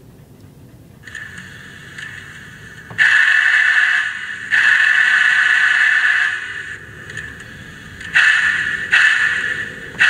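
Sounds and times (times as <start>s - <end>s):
model locomotive steam hiss: 1.1s - 10.0s.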